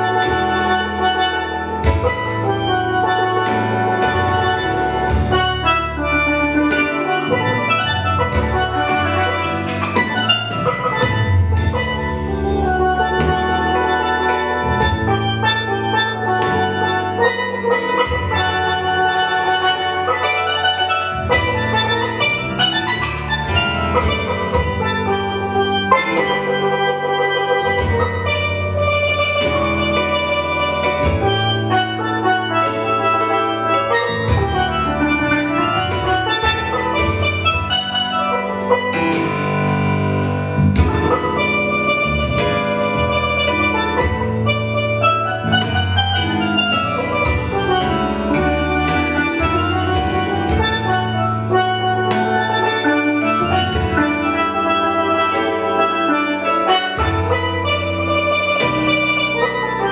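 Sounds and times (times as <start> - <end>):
steady low tones: 0.0 - 59.9
steel pan melody: 0.0 - 59.9.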